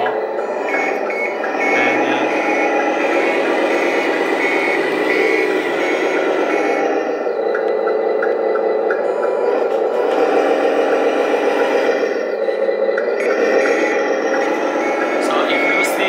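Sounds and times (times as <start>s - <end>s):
high reversing beeper: 0.0s - 16.0s
simulated truck engine: 0.0s - 16.0s.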